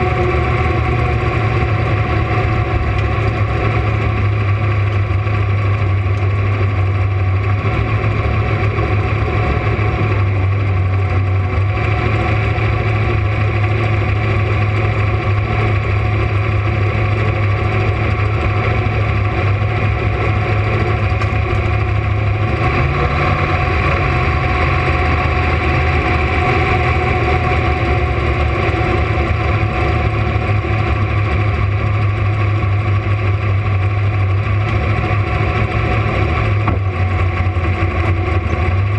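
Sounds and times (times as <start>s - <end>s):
car engine running at low revs: 0.0s - 38.9s.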